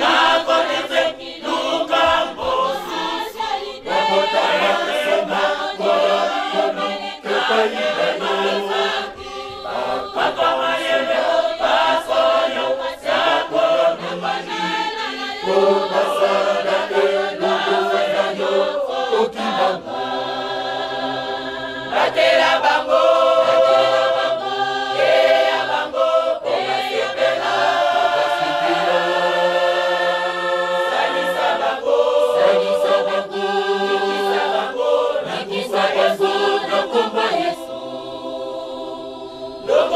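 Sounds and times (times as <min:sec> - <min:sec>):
mixed choir singing in harmony: 0:00.0 - 0:39.9.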